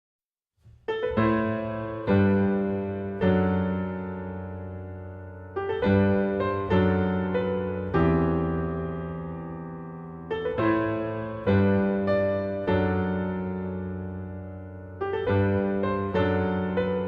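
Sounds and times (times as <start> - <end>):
slow piano chords: 0.6 - 17.0.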